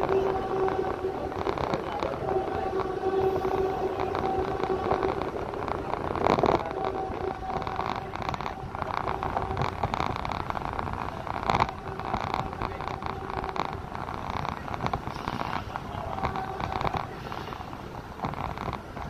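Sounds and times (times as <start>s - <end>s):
vehicle road and engine hum: 0.0s - 19.0s.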